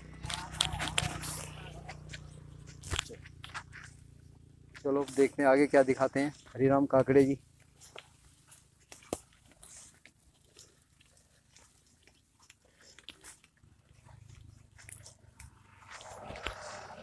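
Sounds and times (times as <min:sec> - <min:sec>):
footsteps on grassy path: 0:00.1 - 0:17.0
plants rustling: 0:00.2 - 0:17.0.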